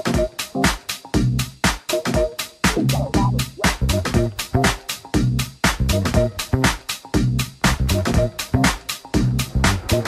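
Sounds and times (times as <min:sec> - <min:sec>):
upbeat electronic dance music: 0:00.0 - 0:10.0.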